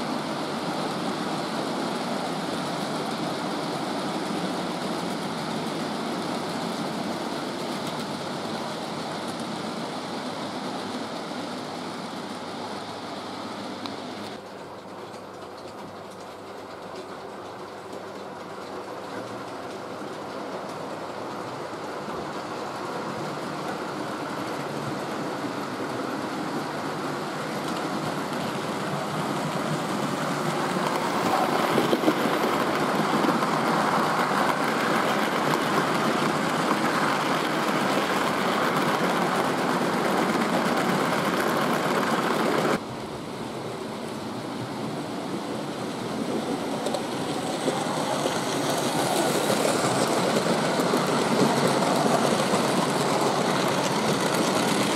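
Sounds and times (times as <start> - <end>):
model train rumbling: 0.0 - 54.9.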